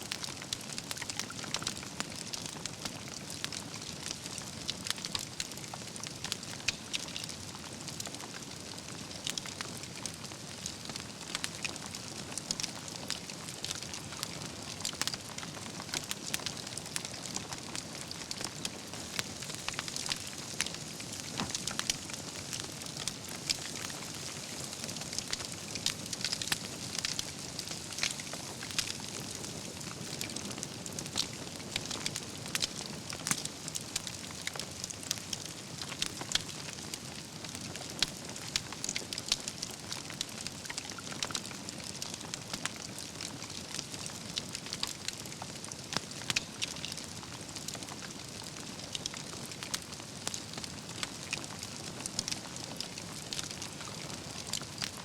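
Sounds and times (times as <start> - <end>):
wood fire crackling: 0.1 - 55.0.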